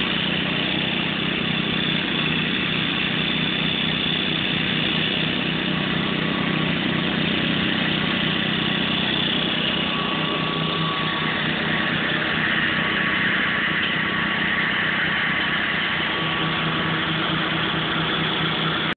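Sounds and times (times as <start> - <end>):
walk-behind tractor engine running: 0.0 - 18.9.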